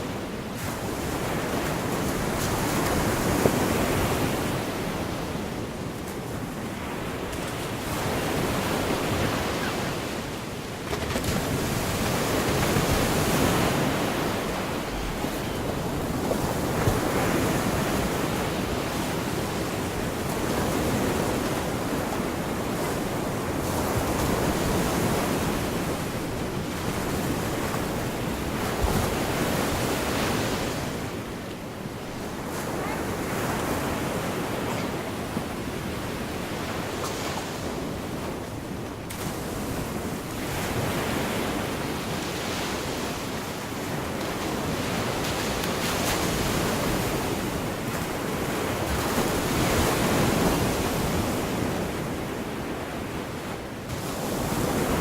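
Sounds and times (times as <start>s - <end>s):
surf washing onto shore: 0.0s - 55.0s.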